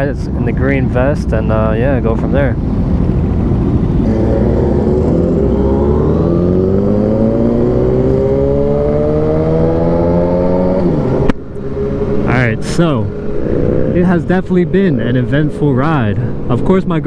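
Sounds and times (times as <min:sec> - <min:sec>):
wind rush: 0:00.0 - 0:17.0
motorcycle engine accelerating: 0:02.7 - 0:16.4.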